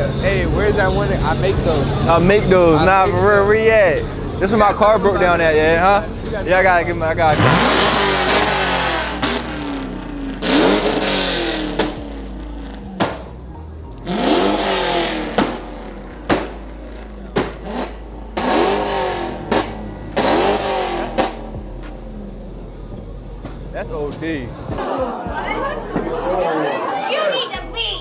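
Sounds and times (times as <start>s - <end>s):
car engine revving hard: 0.0s - 24.8s
exhaust cracks: 0.0s - 24.8s.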